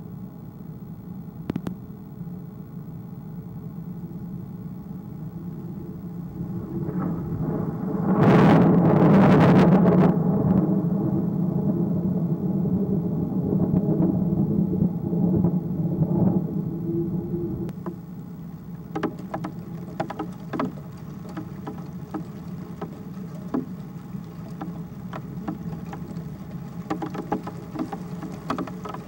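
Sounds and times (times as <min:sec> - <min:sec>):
thunder rumbling: 0:05.2 - 0:29.0.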